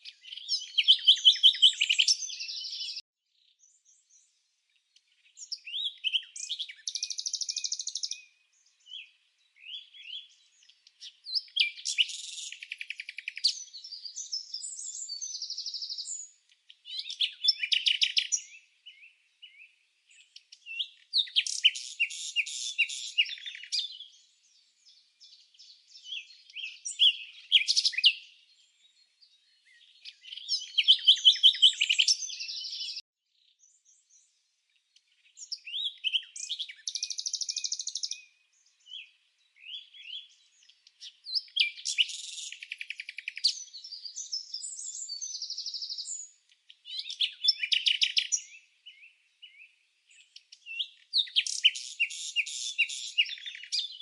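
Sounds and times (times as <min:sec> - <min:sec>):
songbird chirping and trilling: 0:00.0 - 0:54.0.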